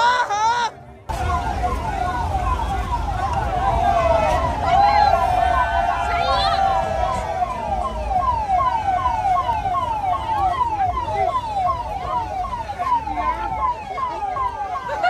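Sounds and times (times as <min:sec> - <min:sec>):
street and crowd rumble: 0:00.0 - 0:15.0
police siren wailing: 0:01.1 - 0:15.0.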